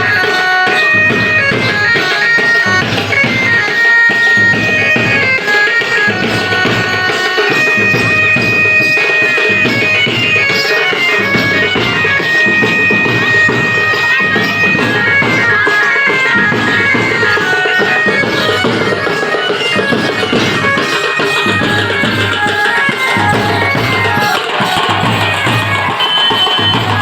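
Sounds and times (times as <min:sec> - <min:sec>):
reedy wind instrument melody: 0:00.0 - 0:27.0
steady drum beat: 0:00.0 - 0:27.0.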